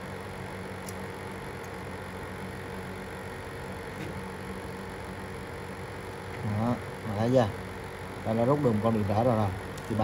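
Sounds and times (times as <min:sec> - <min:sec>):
low hum and hiss: 0:00.0 - 0:10.0.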